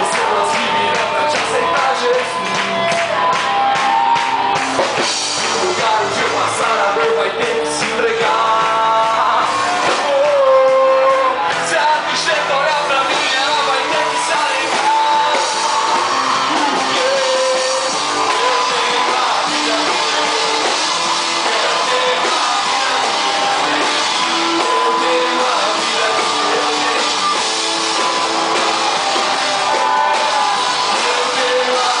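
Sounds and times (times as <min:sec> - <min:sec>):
acoustic and electric guitars: 0:00.0 - 0:32.0
drums: 0:00.0 - 0:32.0
male lead singer: 0:00.0 - 0:32.0.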